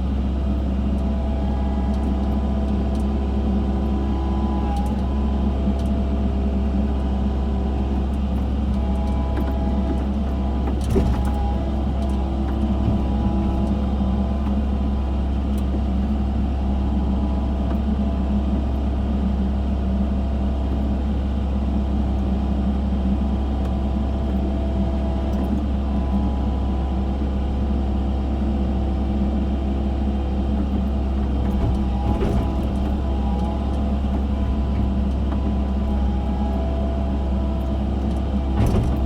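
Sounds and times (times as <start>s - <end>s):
excavator diesel engine drone: 0.0s - 39.0s.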